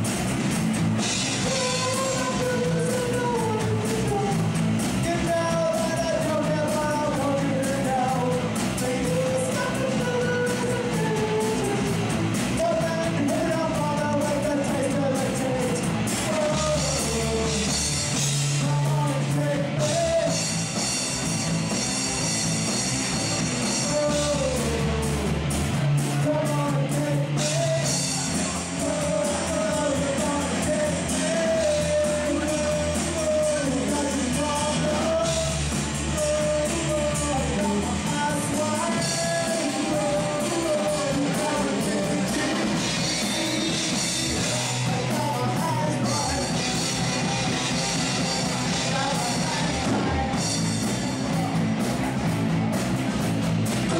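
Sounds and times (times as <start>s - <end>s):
bass guitar: 0.0s - 53.9s
drum kit with cymbals: 0.0s - 53.9s
electric guitar: 0.0s - 53.9s
person singing: 1.0s - 21.8s, 23.0s - 52.8s.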